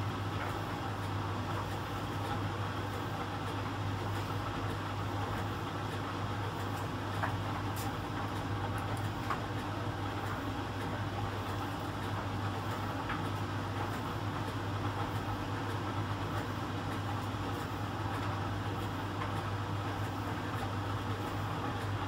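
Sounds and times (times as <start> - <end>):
tumble dryer motors humming: 0.0 - 22.0.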